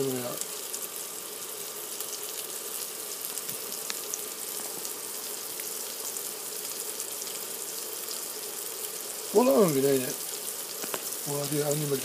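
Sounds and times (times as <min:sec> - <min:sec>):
patties sizzling in a pan: 0:00.0 - 0:12.0.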